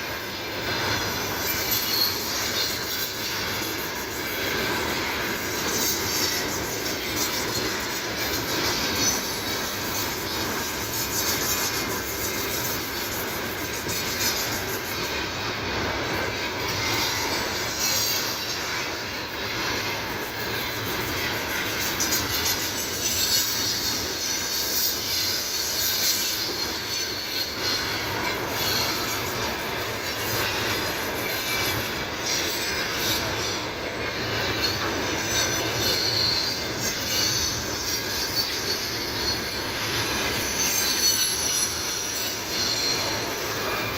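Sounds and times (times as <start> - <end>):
train wagons rattling on rails: 0.0 - 43.9.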